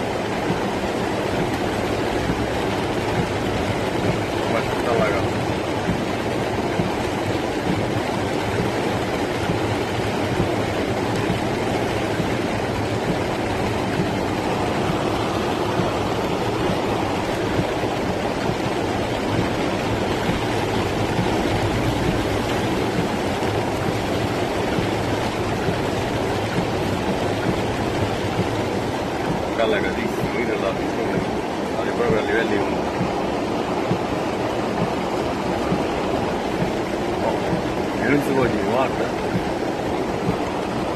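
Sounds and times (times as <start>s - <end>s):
rainwater rushing through street: 0.0s - 40.9s.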